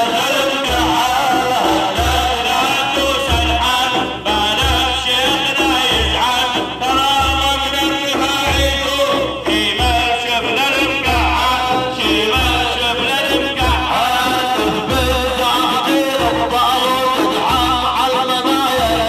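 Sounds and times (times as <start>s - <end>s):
low drum beat: 0.0s - 19.0s.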